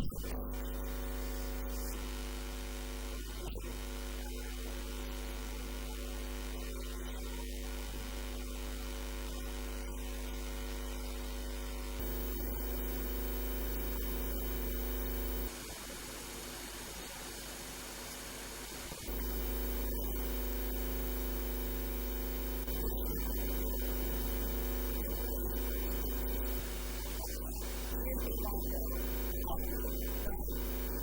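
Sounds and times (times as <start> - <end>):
electrical hum with hiss: 0.0 - 31.0.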